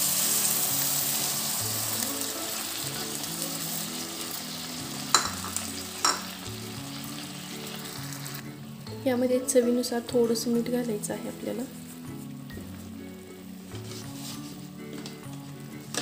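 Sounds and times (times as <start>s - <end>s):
liquid sizzling in hot fat: 0.0s - 16.0s.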